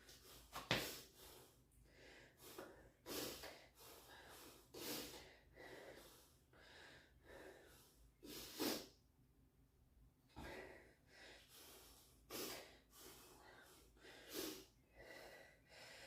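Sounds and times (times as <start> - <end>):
person breathing hard: 0.0 - 8.9, 10.3 - 16.0.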